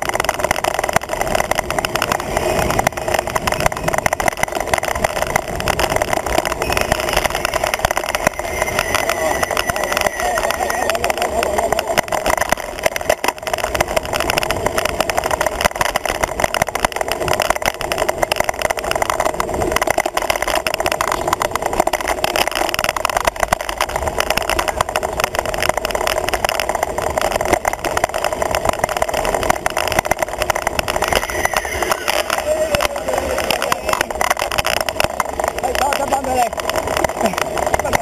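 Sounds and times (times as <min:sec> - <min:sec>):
road vibration: 0:00.0 - 0:38.0
wind rushing over camera: 0:00.0 - 0:38.0.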